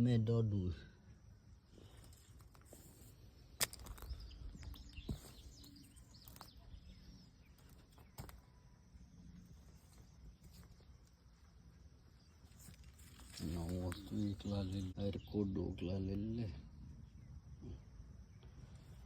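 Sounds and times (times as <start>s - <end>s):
faint bird chirps: 3.2s - 19.0s.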